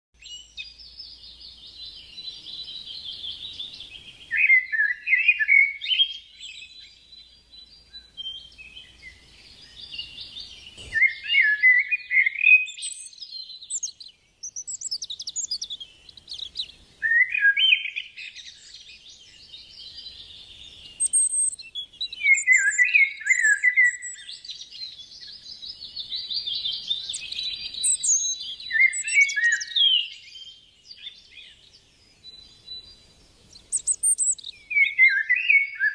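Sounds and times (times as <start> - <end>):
high bird chirps: 0.2 - 35.9
songbirds chattering: 0.2 - 35.9.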